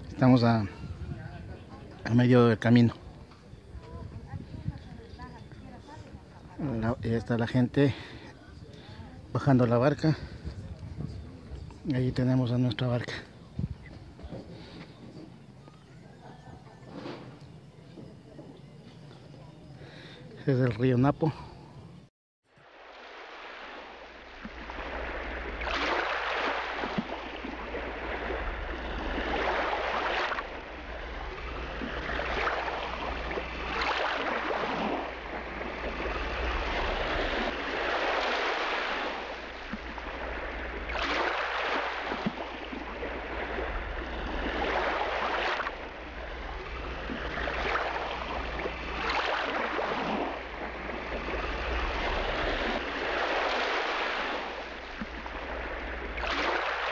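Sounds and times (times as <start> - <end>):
water splashing along boat hull: 0.0 - 21.0, 22.6 - 56.9
boat engine hum: 0.0 - 22.1, 22.7 - 56.9.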